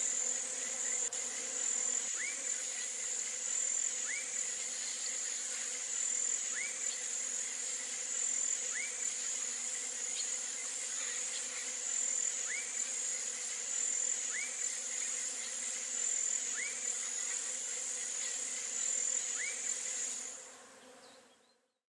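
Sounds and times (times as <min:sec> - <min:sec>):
insects trilling: 0:00.0 - 0:20.4.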